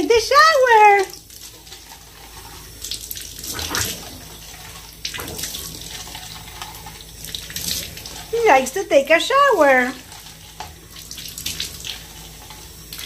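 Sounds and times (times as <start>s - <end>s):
shower water spraying: 0.0s - 13.0s
water splashing on bathtub floor: 0.0s - 13.0s.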